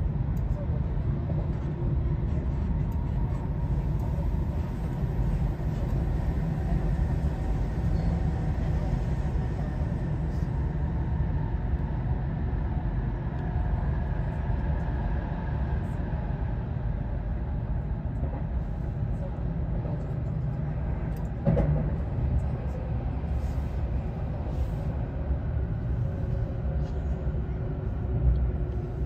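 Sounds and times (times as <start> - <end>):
electric train rumble from inside: 0.0 - 29.0.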